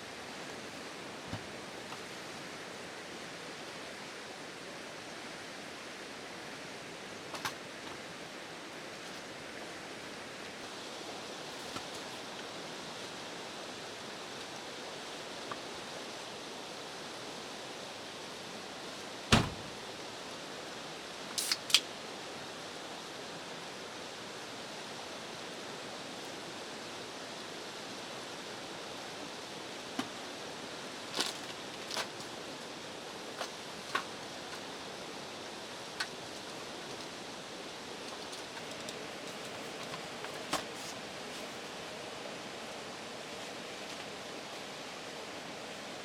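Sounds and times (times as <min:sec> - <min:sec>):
outdoor ambience hiss: 0:00.0 - 0:46.0.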